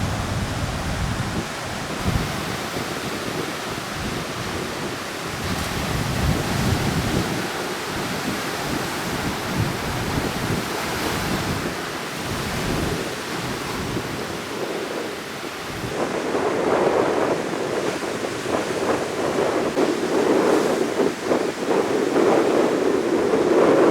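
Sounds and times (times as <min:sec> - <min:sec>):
heavy surf breaking: 0:00.0 - 0:23.9
wind buffeting microphone: 0:00.0 - 0:23.9.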